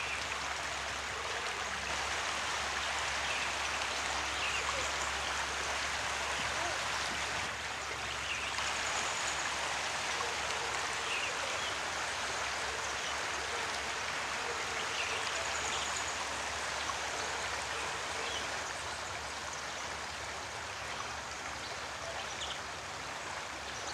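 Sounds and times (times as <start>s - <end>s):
river rushing over rocks: 0.0s - 20.6s.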